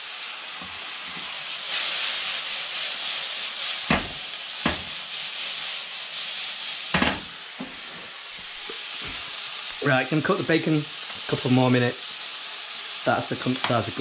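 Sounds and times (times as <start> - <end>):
bacon sizzling in a frying pan: 0.0 - 14.0.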